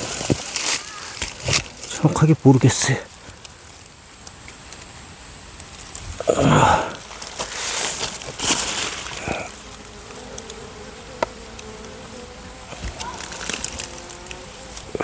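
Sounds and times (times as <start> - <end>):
rustling and handling noise: 0.0 - 12.0, 12.6 - 15.0
honeybees buzzing: 0.0 - 15.0.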